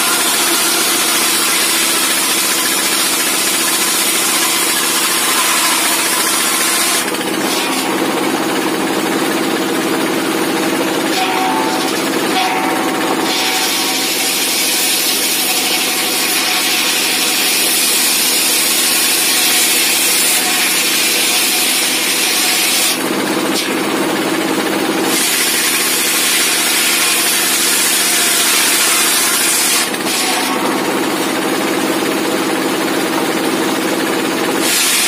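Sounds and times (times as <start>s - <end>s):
diesel engine running: 0.0s - 19.0s, 23.0s - 28.7s, 29.8s - 34.7s
circular saw cutting wood: 0.0s - 35.0s.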